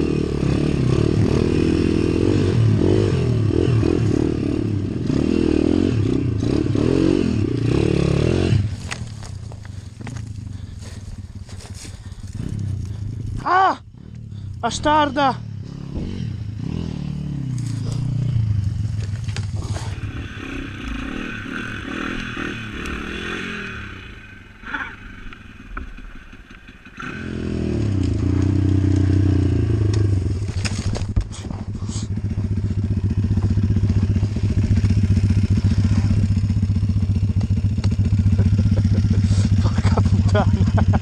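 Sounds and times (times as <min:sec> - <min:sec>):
motorbike engine running: 0:00.0 - 0:41.0.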